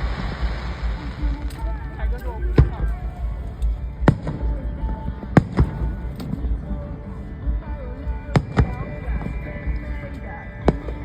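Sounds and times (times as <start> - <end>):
fireworks bangs: 0.0 - 11.0
music: 0.0 - 11.0.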